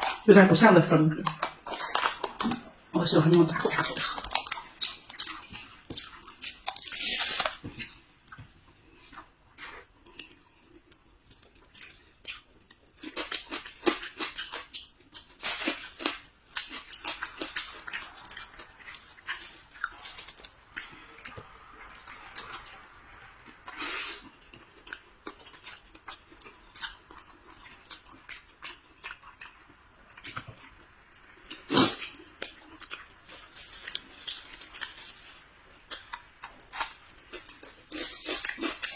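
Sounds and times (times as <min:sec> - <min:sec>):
person chewing food: 0:00.0 - 0:00.3, 0:01.2 - 0:38.9.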